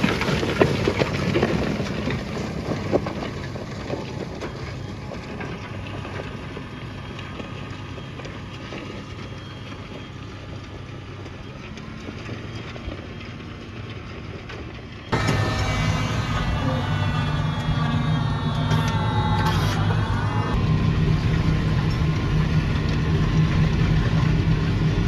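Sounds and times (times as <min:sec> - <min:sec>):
engine whine: 0:00.0 - 0:25.0
tractor engine under load: 0:00.0 - 0:25.0.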